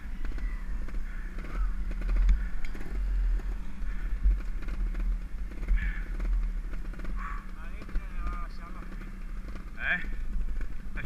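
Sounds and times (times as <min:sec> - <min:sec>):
knocks and rattles: 0:00.0 - 0:11.0
motorcycle engine at low revs: 0:00.0 - 0:11.0.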